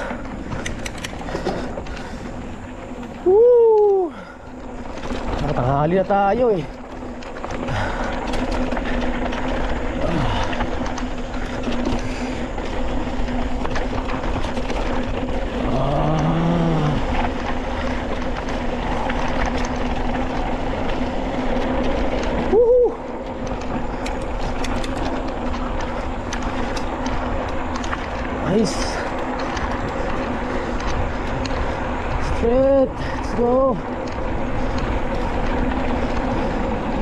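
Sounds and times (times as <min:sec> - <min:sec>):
bike rattling: 0:00.0 - 0:37.0
bike tyre noise on dirt: 0:00.0 - 0:37.0
wind rush: 0:06.4 - 0:37.0.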